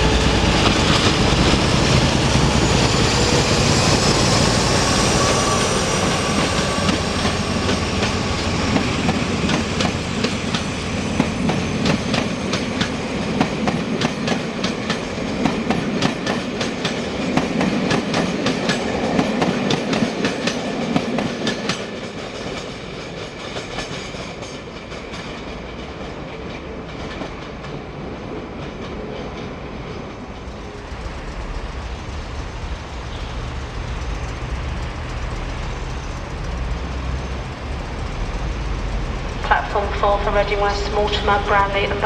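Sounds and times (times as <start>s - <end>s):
train wheels clicking over rail joints: 0.2s - 27.9s, 28.6s - 39.4s.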